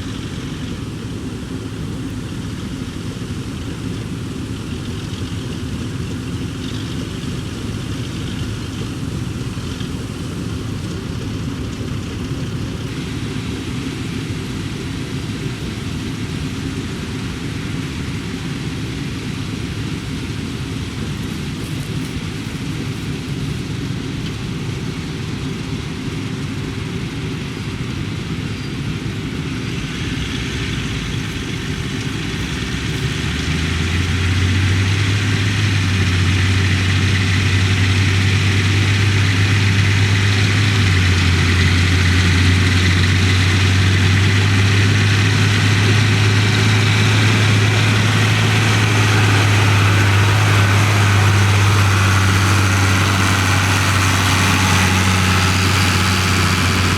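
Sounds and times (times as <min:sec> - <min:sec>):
deep engine drone: 0:00.0 - 0:22.2, 0:29.7 - 0:56.9
farm machinery running: 0:00.0 - 0:56.9.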